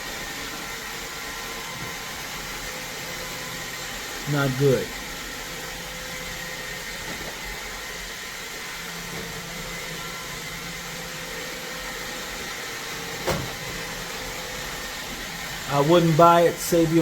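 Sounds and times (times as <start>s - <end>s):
robot vacuum whirring: 0.0s - 17.0s.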